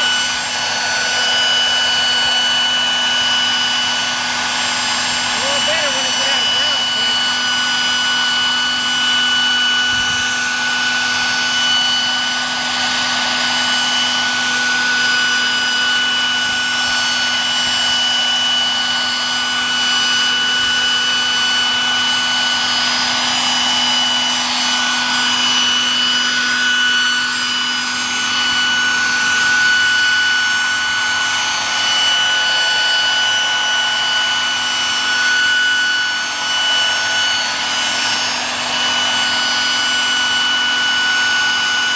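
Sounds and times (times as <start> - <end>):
model helicopter hovering: 0.0 - 41.9.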